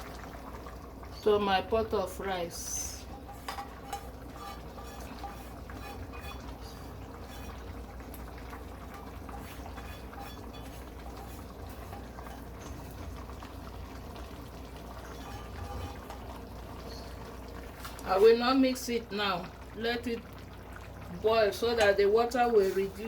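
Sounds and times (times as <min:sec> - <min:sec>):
pot of rice bubbling: 0:00.0 - 0:23.0.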